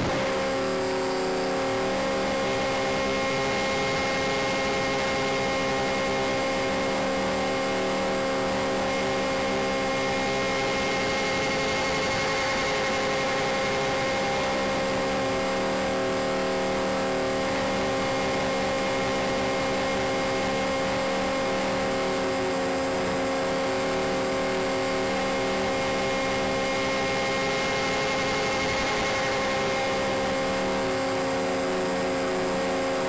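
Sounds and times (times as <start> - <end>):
model aircraft motors whining: 0.0 - 33.0.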